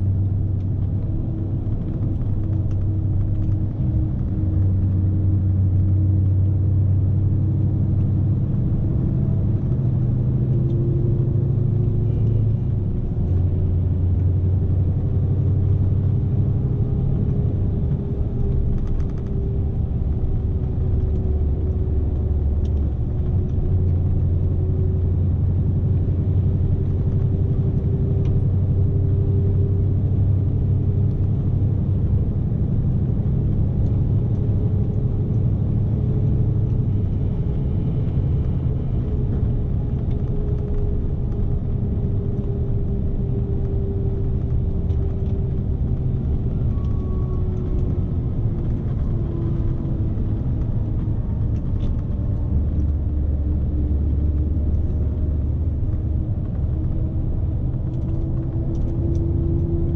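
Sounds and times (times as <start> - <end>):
truck diesel engine from inside cab: 0.0 - 59.9.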